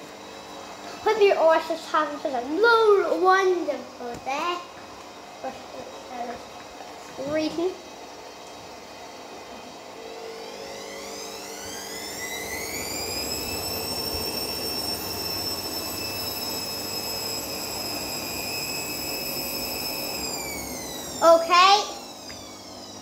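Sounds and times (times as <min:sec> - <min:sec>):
washing machine motor whine: 0:00.0 - 0:23.0.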